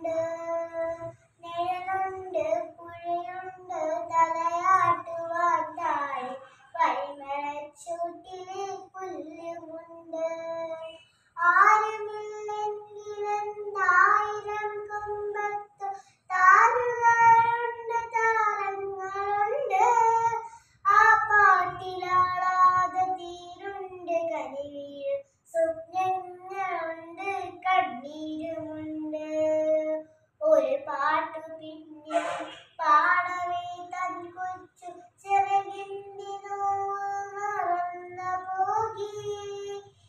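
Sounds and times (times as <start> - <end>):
girl singing unaccompanied: 0.0 - 40.0.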